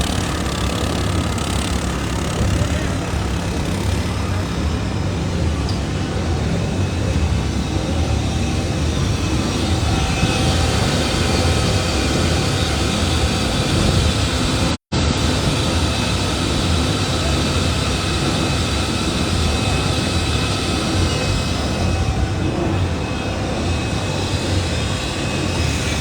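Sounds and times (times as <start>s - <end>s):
loud mechanical din: 0.0s - 26.0s.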